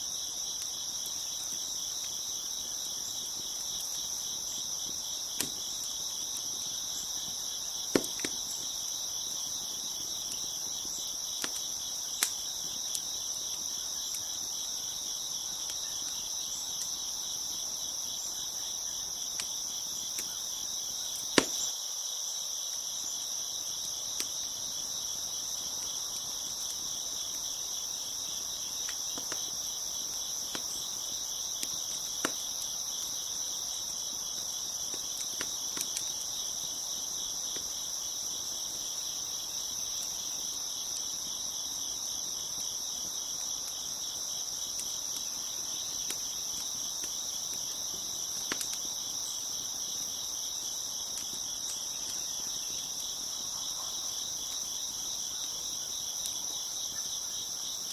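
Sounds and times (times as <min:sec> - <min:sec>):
wood fire crackling: 0:00.0 - 0:21.7, 0:22.4 - 0:57.9
crickets chirping: 0:00.0 - 0:57.9.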